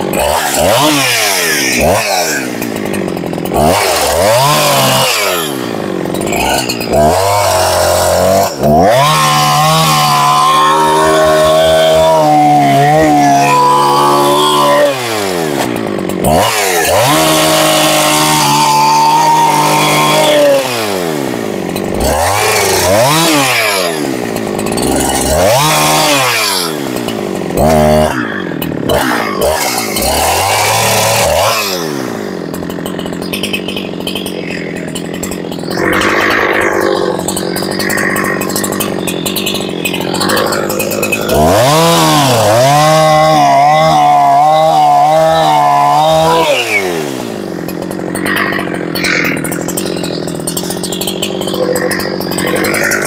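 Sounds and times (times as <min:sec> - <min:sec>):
chainsaw revving cutting branches: 0:00.0 - 0:53.0.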